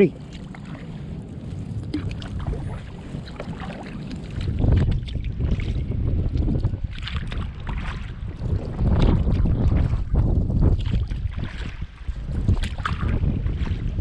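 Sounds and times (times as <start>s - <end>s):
paddle strokes splashing water: 0.0s - 14.0s
wind buffeting microphone: 0.0s - 14.0s.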